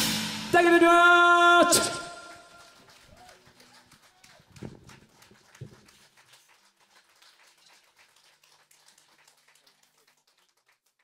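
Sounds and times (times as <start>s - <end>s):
audience applause: 1.7s - 11.0s.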